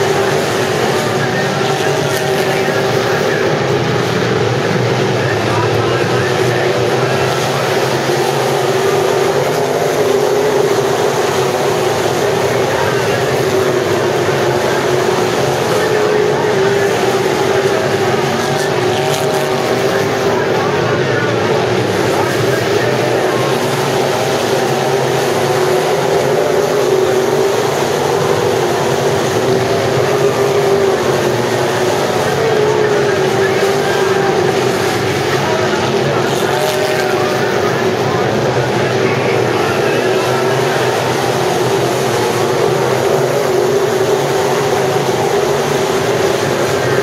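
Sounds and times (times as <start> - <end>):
race car engines: 0.0 - 47.0.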